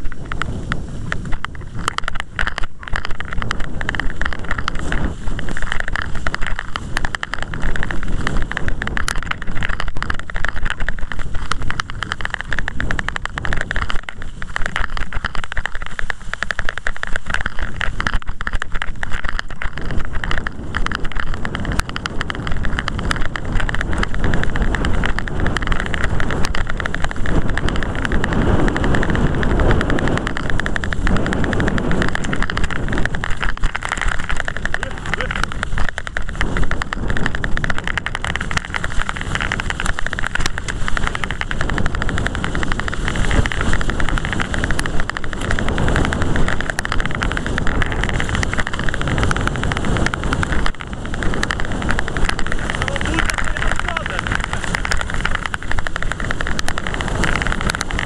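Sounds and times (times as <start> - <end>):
camera knocks and rattles: 0.0 - 58.0
continuous rumble: 0.0 - 58.0
wind buffeting microphone: 0.0 - 58.0.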